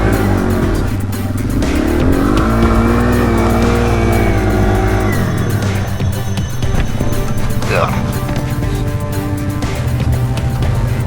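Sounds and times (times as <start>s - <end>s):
motorcycle engine revving: 0.0s - 11.0s
music: 0.0s - 11.0s.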